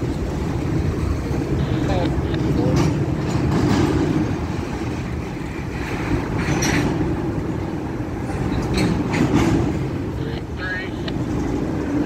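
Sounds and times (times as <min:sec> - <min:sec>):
diesel locomotive engines rumbling: 0:00.0 - 0:12.0.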